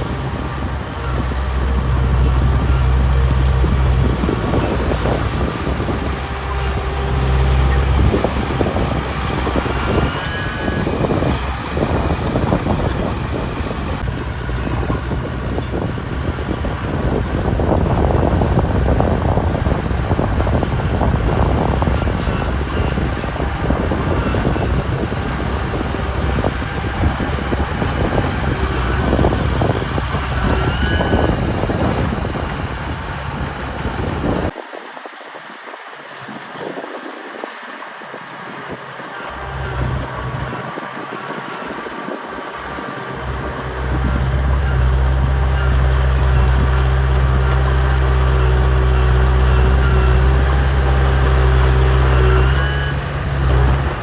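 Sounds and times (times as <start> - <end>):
diesel earthmover engine under load: 0.0 - 54.0.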